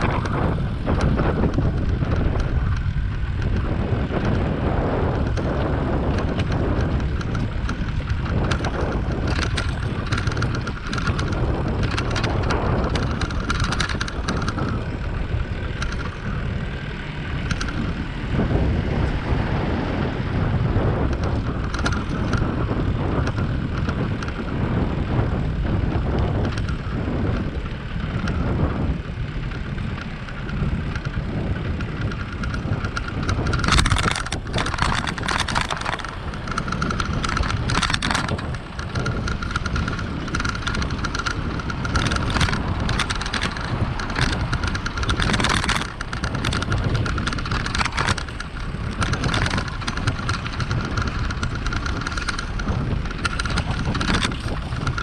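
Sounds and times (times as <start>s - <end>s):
rattling clicks: 0.0s - 19.4s, 20.7s - 24.6s, 26.0s - 28.5s, 29.5s - 55.0s
wind buffeting microphone: 0.0s - 55.0s.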